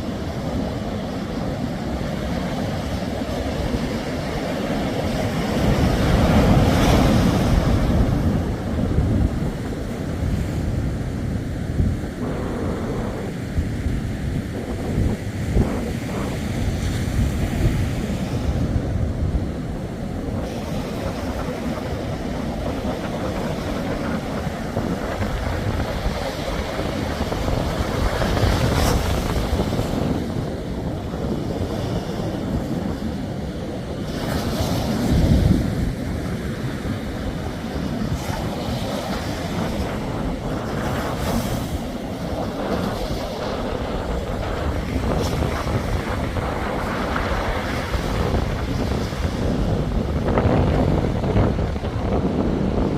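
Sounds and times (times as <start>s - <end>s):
sea surf washing onto shore: 0.0s - 52.9s
wind buffeting microphone: 0.0s - 52.9s.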